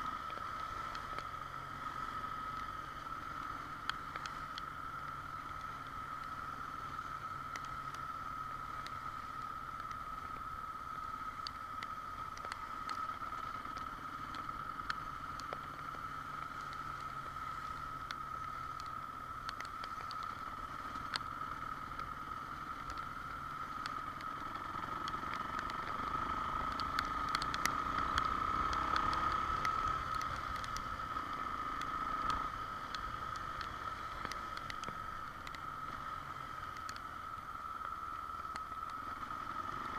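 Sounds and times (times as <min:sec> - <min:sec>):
motorcycle engine and road noise: 0:00.0 - 0:39.9
sharp rain ticks: 0:00.0 - 0:39.9.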